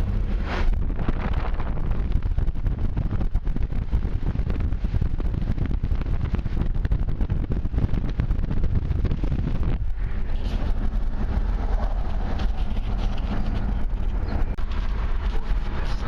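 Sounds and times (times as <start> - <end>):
low rumble with fast flutter: 0.0 - 16.0.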